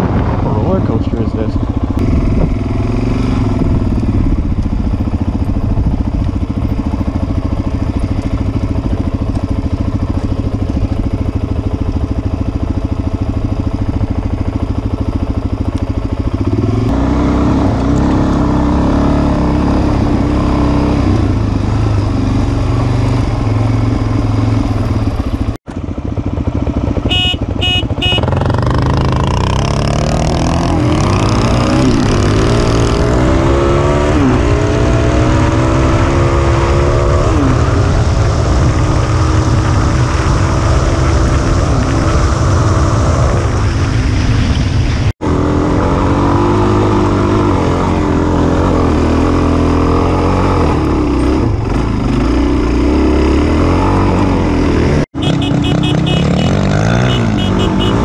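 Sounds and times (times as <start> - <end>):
dirt bike engine accelerating: 0.0 - 58.0.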